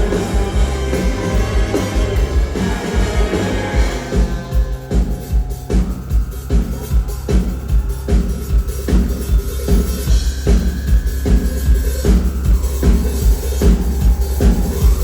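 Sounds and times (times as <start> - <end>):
deep bass: 0.0 - 15.0
heavy drum beat: 0.0 - 15.0
live band playing: 0.0 - 15.0.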